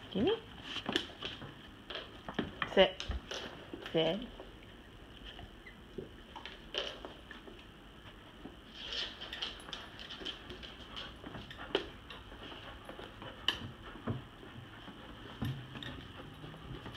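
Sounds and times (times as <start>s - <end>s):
dogs scuffling: 0.4s - 16.9s.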